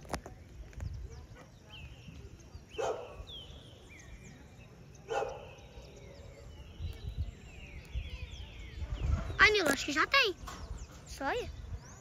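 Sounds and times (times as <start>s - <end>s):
birds chirping: 0.0s - 12.0s
low wind rumble on microphone: 0.0s - 12.0s.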